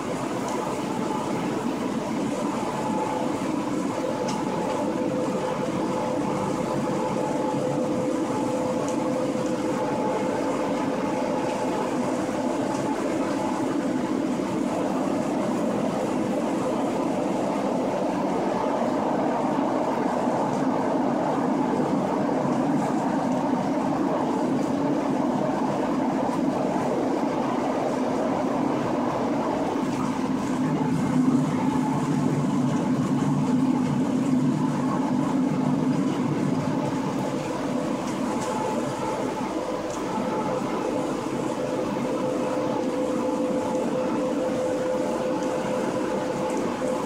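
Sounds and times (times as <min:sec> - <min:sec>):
faint steady whine: 0:00.0 - 0:47.0.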